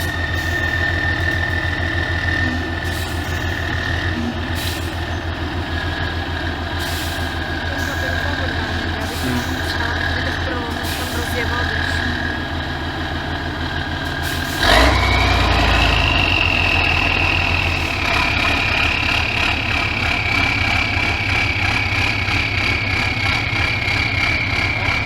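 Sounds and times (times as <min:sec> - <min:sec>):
high engine whine: 0:00.0 - 0:25.0
truck engine running: 0:00.0 - 0:25.0.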